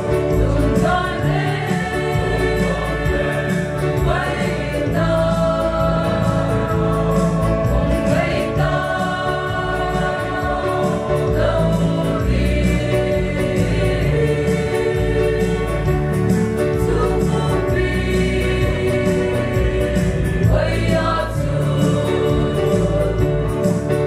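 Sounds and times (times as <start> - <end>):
mixed choir singing a hymn: 0.0 - 24.0.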